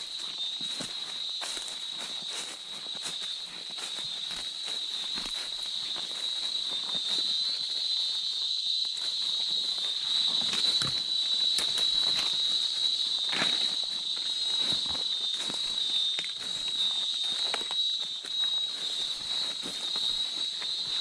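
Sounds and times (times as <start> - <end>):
footsteps: 0.0 - 7.8, 8.8 - 21.0
shrill insect chorus: 0.0 - 21.0.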